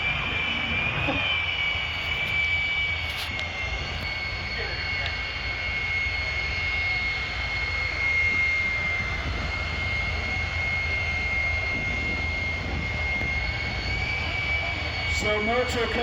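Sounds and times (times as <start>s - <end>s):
jet engine whine and rumble: 0.0s - 16.0s.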